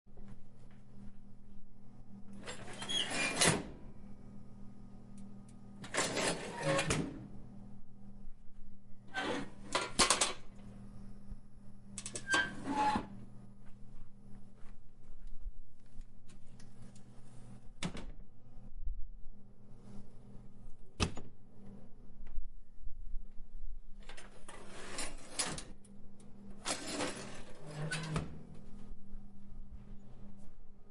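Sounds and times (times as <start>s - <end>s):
low steady hum: 0.1s - 3.0s, 3.7s - 30.9s.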